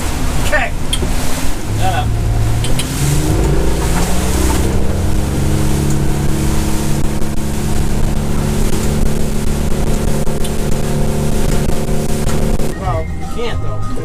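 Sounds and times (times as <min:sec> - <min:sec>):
motorboat engine at speed: 0:00.0 - 0:14.0
wind and water rushing: 0:00.0 - 0:14.0.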